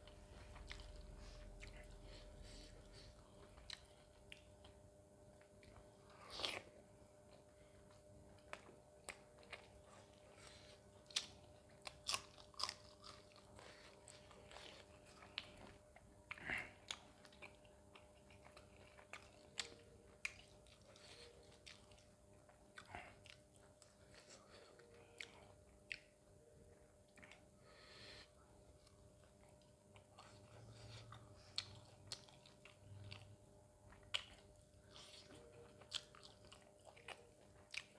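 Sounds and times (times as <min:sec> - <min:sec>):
person chewing and biting food: 0:00.4 - 0:26.2, 0:28.8 - 0:33.3, 0:33.9 - 0:37.9.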